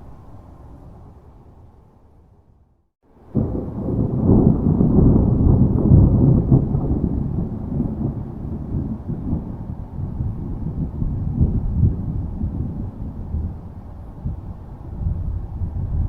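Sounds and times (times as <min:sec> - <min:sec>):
thunder rumbling: 0:03.1 - 0:16.0.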